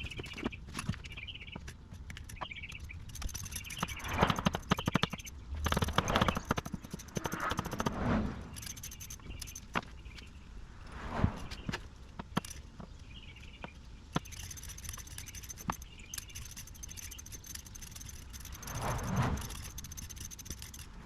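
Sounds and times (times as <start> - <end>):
clicking and scraping on engine: 0.0 - 10.2, 11.3 - 21.0
faint birds chirping: 0.0 - 21.0.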